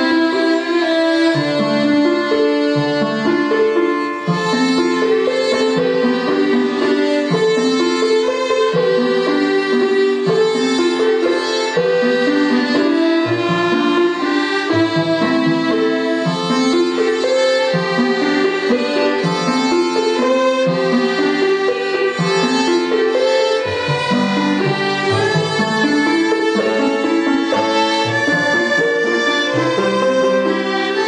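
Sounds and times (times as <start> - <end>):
string ensemble playing: 0.0 - 31.0.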